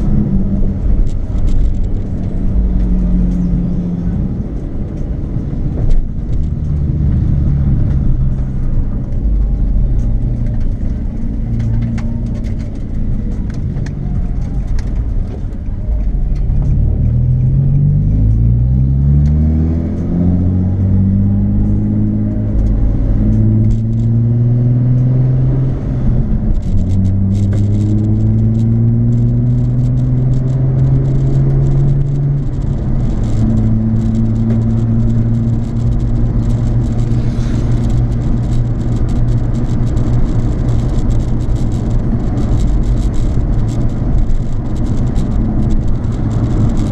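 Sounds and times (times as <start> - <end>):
car engine accelerating through gears: 0.0 - 46.9.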